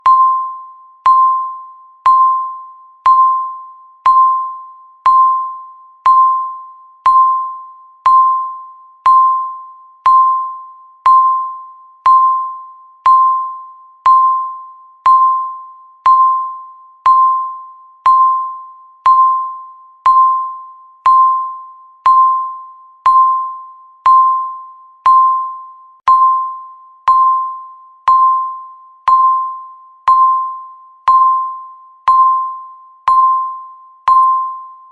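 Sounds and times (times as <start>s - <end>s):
electronic timer beeps: 0.0s - 34.9s.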